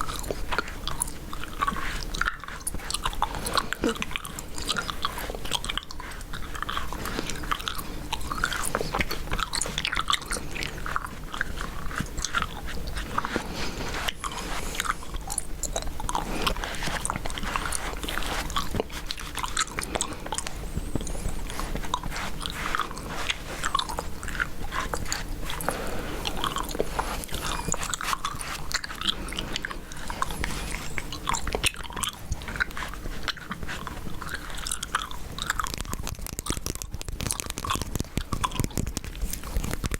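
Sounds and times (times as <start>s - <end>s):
gum chewing mouth clicks: 0.0s - 39.9s.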